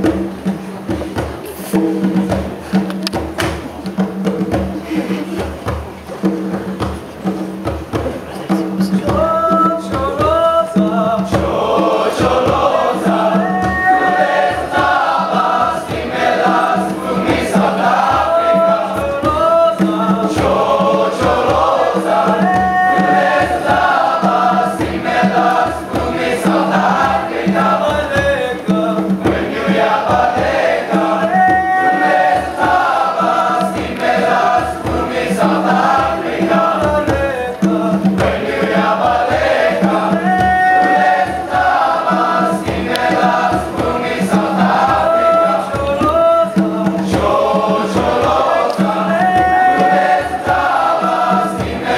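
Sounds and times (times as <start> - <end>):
hand drum beating: 0.0 - 51.9
boys' choir singing: 4.7 - 5.6, 8.5 - 51.9.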